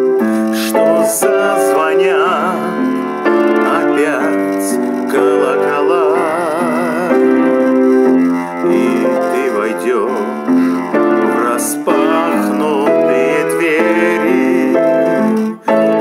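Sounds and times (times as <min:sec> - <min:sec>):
electric keyboard chords: 0:00.0 - 0:16.0
man singing with vibrato: 0:00.0 - 0:16.0.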